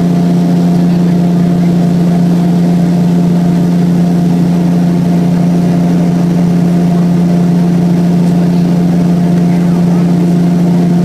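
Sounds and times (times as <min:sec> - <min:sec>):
aircraft engine droning in cabin: 0:00.0 - 0:11.0.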